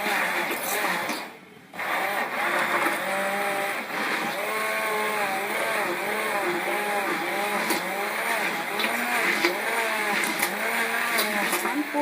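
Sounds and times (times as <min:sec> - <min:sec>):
electric mixer motor running: 0:00.0 - 0:12.0.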